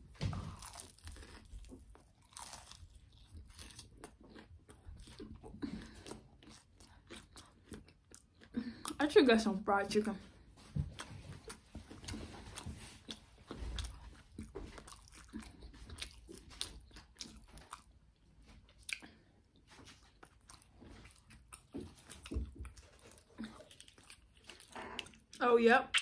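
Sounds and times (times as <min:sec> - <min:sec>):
person crunching fried food: 0:00.3 - 0:09.0, 0:11.0 - 0:18.0, 0:18.7 - 0:25.4.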